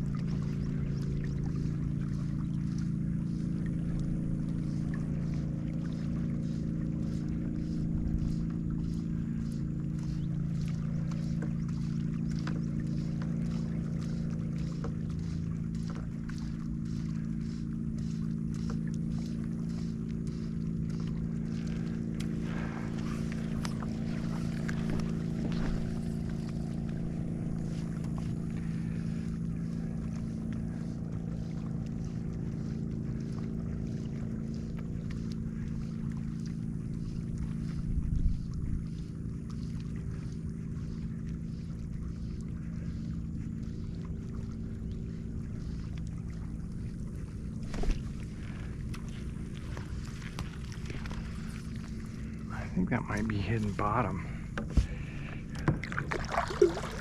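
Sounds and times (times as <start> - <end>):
boat motor running: 0.0 - 57.0.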